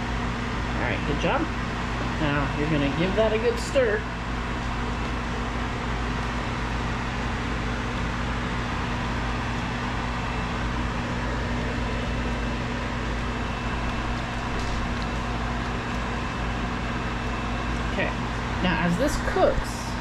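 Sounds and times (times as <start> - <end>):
low electrical hum: 0.0 - 20.0
ventilation fan whirring: 0.0 - 20.0.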